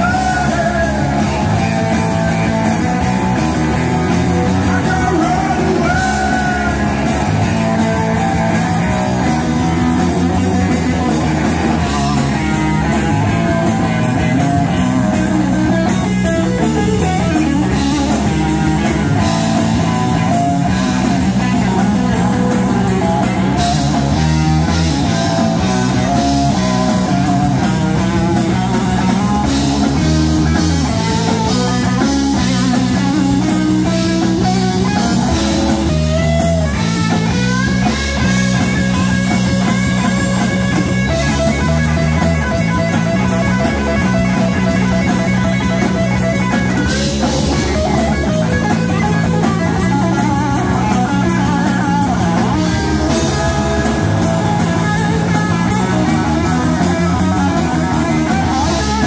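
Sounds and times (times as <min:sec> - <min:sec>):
bass guitar: 0:00.0 - 0:59.0
drum kit: 0:00.0 - 0:59.0
electric guitar: 0:00.0 - 0:59.0.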